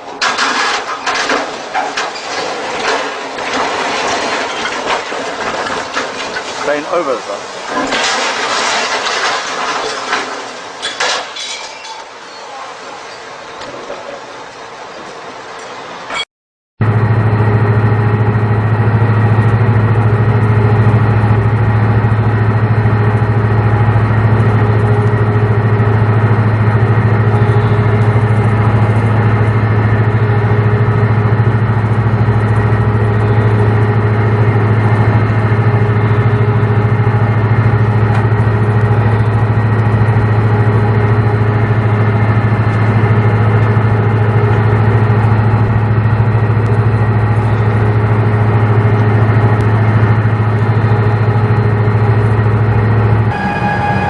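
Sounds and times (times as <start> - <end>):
large engine running steadily: 0.0 - 16.2, 16.8 - 54.0.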